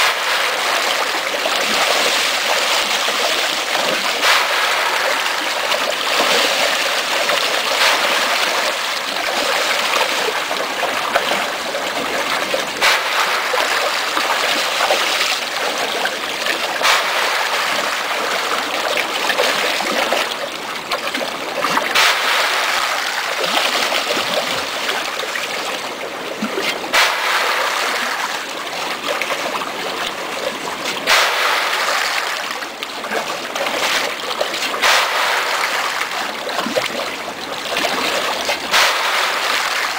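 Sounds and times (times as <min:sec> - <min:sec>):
fish splashing in water: 0:00.0 - 0:39.9.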